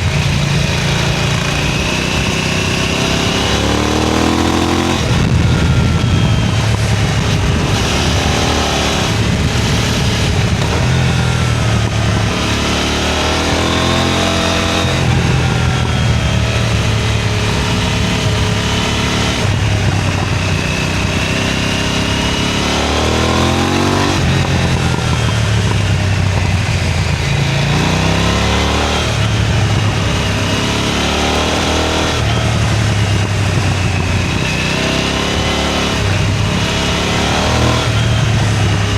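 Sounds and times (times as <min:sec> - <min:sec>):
motorcycle engine revving through gears: 0:00.0 - 0:38.9.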